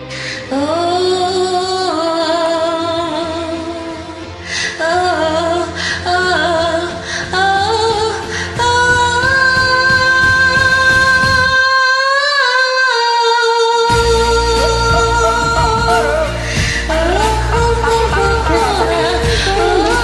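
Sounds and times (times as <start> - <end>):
karaoke backing track: 0.0 - 20.0
woman singing: 0.3 - 20.0.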